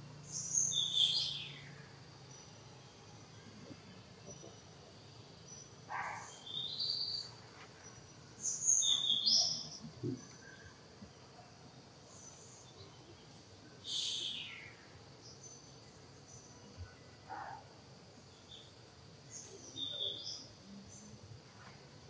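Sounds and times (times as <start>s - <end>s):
faint background hum: 0.0s - 22.0s.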